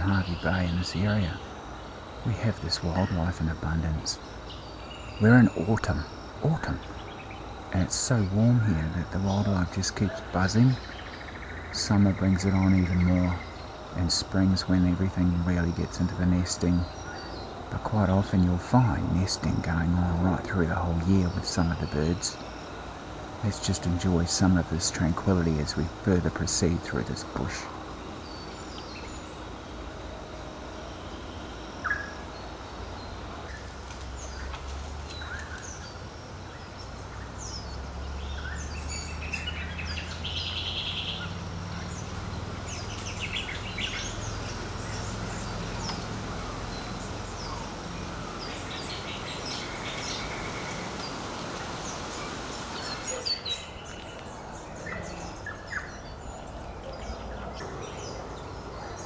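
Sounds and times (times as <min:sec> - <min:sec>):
bird trill: 0:00.0 - 0:59.0
birds chirping and whistling: 0:00.0 - 0:59.0
low steady rumble: 0:00.0 - 0:59.0.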